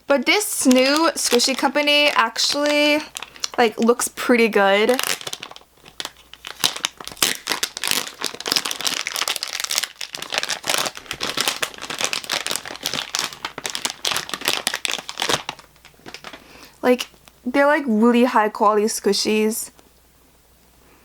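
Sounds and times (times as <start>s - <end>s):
plastic packaging crinkling: 0.0s - 17.1s.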